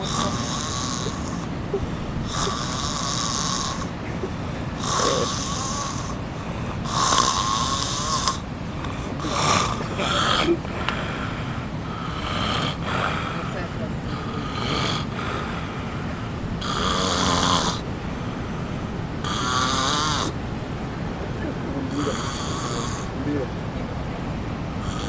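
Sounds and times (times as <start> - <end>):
man snoring: 0.0 - 17.9, 19.2 - 20.4, 21.8 - 23.4, 24.8 - 25.0.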